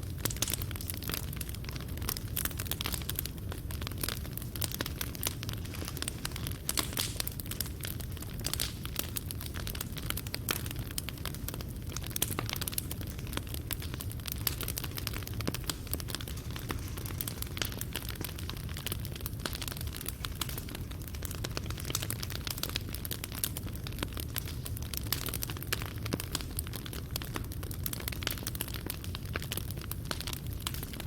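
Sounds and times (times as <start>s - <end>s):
burning wood crackling: 0.0s - 31.0s
fire low rumble: 0.0s - 31.0s.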